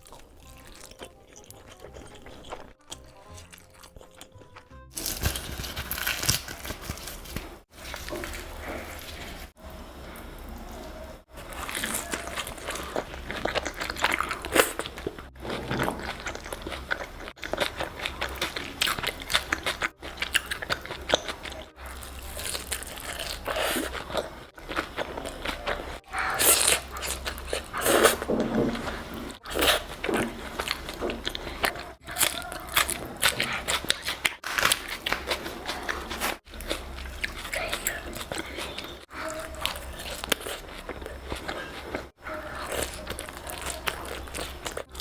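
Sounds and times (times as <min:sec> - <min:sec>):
crunchy chewing: 0:00.0 - 0:09.6, 0:11.3 - 0:45.0.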